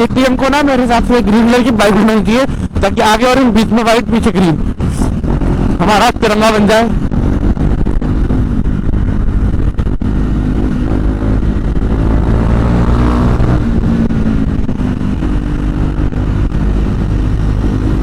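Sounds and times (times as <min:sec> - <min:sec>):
motorcycle engine running: 0:00.0 - 0:18.0
wind rumble: 0:00.0 - 0:18.0.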